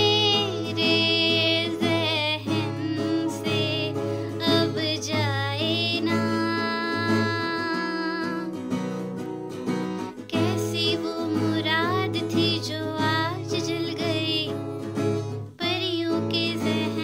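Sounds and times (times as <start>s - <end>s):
woman singing: 0.0s - 8.8s, 10.1s - 17.0s
acoustic guitar strumming: 0.0s - 17.0s.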